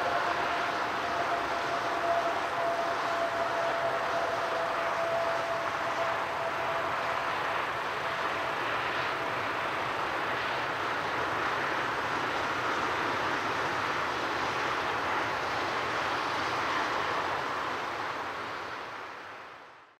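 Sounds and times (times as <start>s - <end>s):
distant jet engine rushing: 0.0s - 19.8s.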